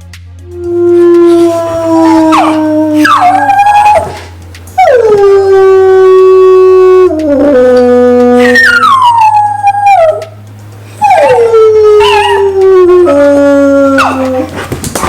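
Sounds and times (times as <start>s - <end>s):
dogs howling: 0.6s - 10.4s, 11.0s - 14.8s.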